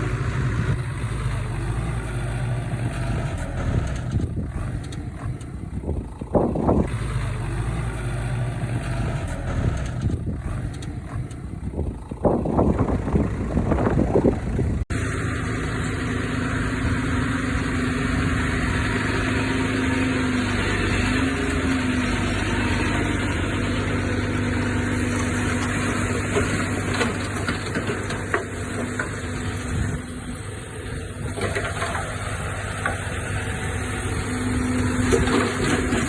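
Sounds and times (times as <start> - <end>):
heavy diesel machinery engine drone: 0.0 - 36.0.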